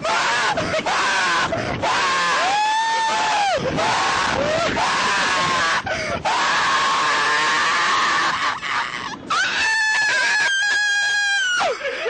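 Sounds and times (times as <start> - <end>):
man screaming: 0.0 - 11.8.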